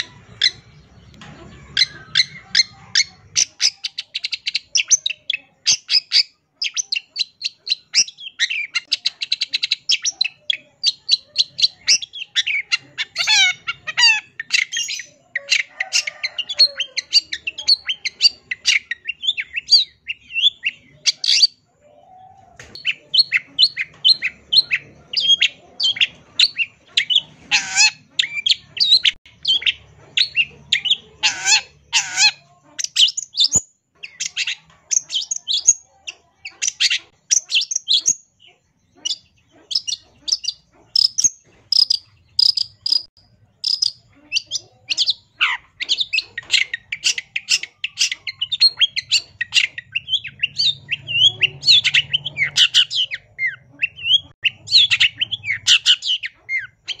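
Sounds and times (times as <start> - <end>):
bird singing chattering song: 0.0 - 57.0.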